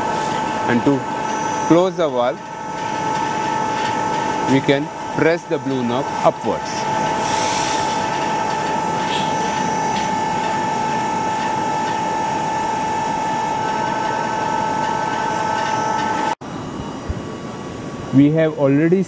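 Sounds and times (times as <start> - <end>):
motor and hydraulic pump whine: 0.0 - 18.9.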